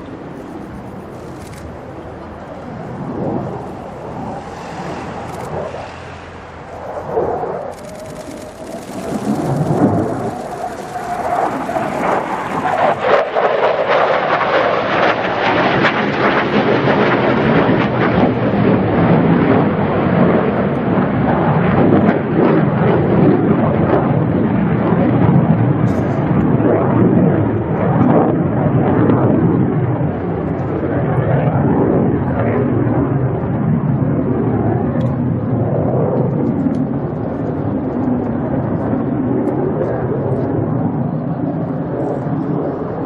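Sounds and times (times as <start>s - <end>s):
jet engine roaring: 0.0s - 43.0s.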